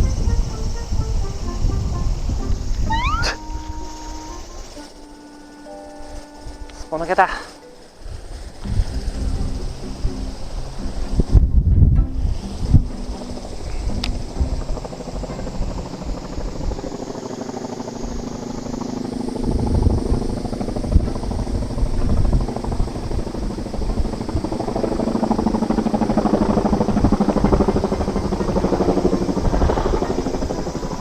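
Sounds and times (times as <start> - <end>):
low pulsing mechanical drone: 0.0 - 31.0.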